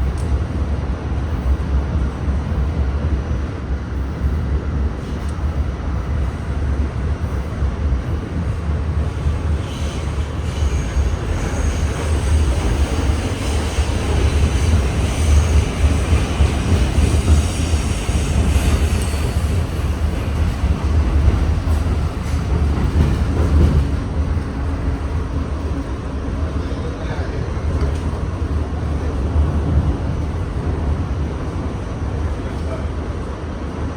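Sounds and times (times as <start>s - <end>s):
subway train rumbling on rails: 0.0s - 33.9s.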